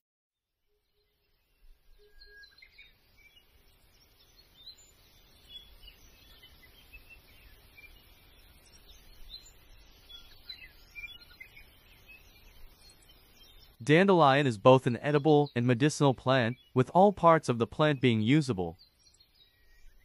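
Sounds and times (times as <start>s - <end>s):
small birds chirping: 0.9s - 20.0s.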